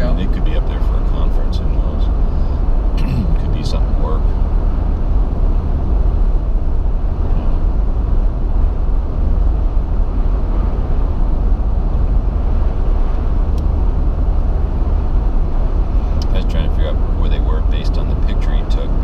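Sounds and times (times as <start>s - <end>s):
car driving cabin rumble: 0.0s - 19.0s.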